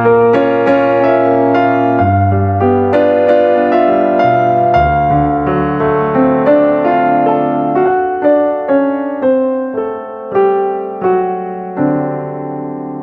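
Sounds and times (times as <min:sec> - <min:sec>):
solo piano melody: 0:00.0 - 0:13.0.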